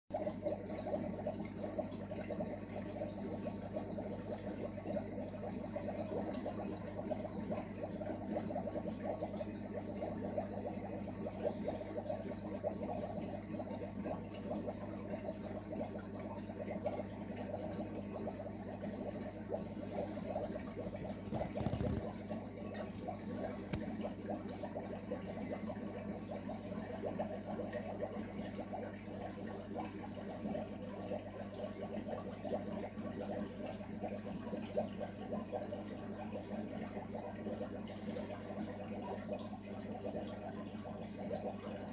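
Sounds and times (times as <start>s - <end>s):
steady low hum: 0.1s - 41.9s
water bubbling and trickling: 0.1s - 41.9s.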